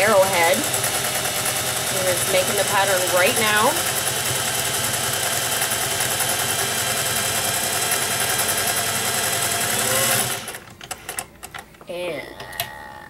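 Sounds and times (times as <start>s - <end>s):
sewing machine running: 0.0s - 11.2s.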